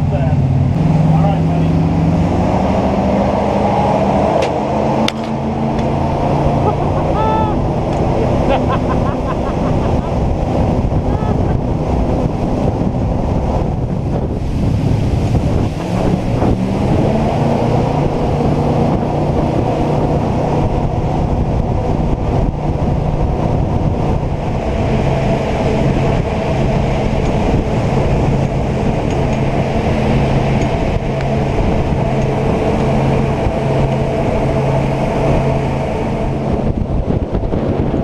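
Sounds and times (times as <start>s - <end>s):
jet boat engine drone: 0.0s - 38.0s
rushing water: 0.0s - 38.0s
wind: 0.0s - 38.0s.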